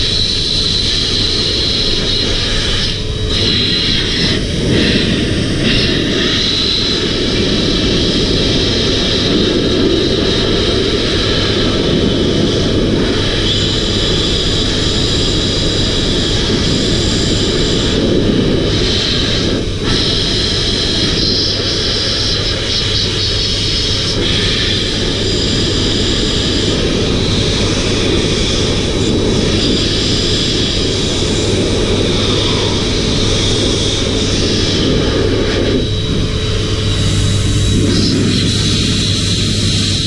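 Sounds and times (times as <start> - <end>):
air rushing through hose: 0.0 - 40.0
high whine: 0.0 - 40.0
vacuum cleaner running: 0.0 - 40.0.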